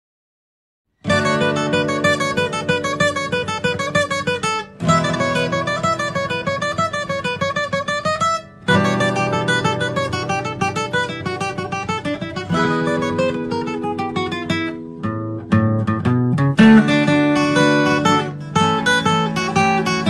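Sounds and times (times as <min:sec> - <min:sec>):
acoustic guitar music: 0:01.0 - 0:20.0.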